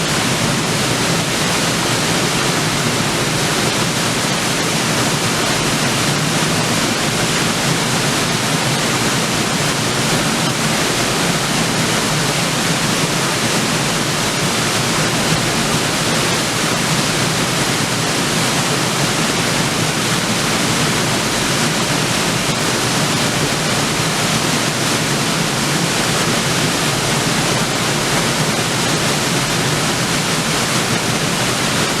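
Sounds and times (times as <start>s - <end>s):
waterfall splashing onto rocks: 0.0s - 32.0s.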